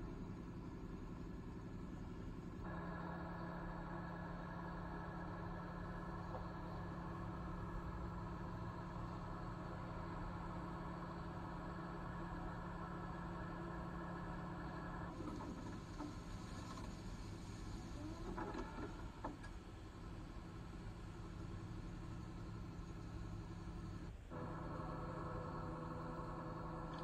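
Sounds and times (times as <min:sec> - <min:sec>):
boat machinery droning: 0:00.0 - 0:27.0.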